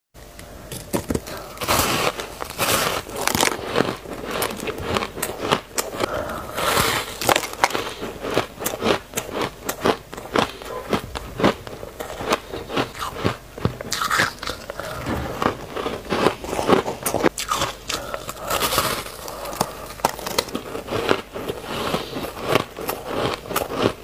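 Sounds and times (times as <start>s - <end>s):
chewing crunchy ice: 0.7s - 24.0s.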